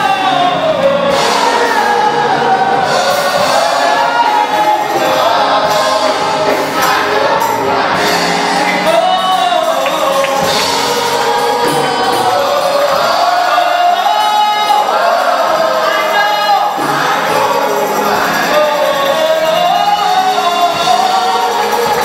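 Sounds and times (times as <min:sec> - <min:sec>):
congregation singing worship song: 0:00.0 - 0:22.0.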